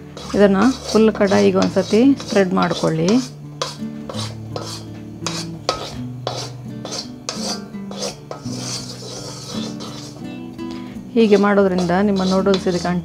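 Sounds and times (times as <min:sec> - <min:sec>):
soft background music: 0:00.0 - 0:13.0
wooden spatula scraping a wok: 0:00.0 - 0:13.0.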